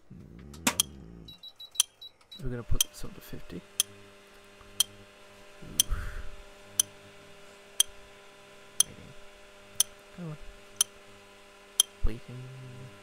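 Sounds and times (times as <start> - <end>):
microwave oven humming: 0.1 - 13.0.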